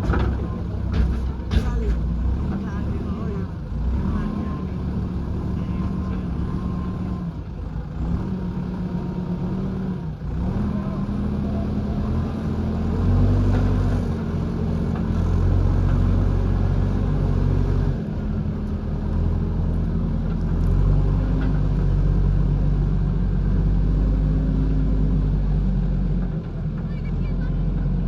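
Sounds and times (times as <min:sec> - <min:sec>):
diesel engine revving under load: 0:00.0 - 0:26.4.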